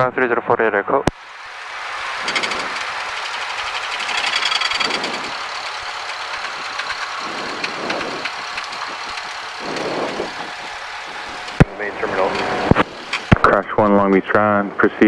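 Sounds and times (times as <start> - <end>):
plane engine droning: 1.1 - 15.0.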